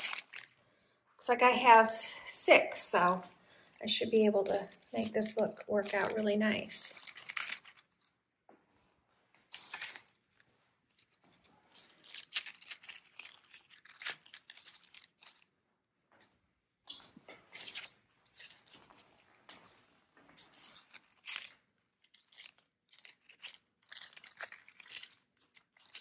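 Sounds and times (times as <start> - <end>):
artificial garland rustling: 0.0 - 15.6, 16.8 - 26.0.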